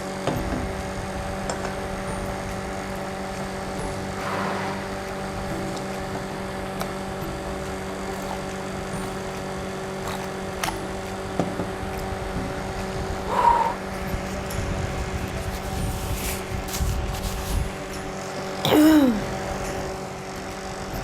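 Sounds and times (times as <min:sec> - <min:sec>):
steady tonal hum: 0:00.0 - 0:21.0.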